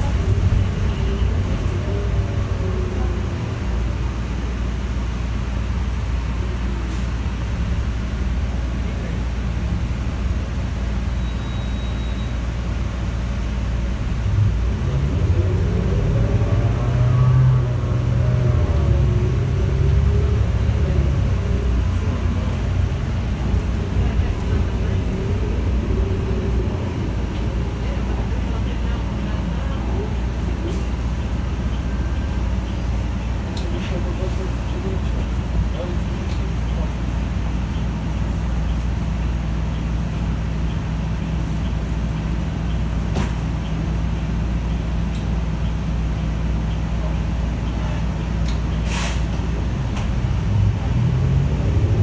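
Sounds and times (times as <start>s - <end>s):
bus engine low rumble: 0.0s - 52.0s
road noise: 0.0s - 52.0s.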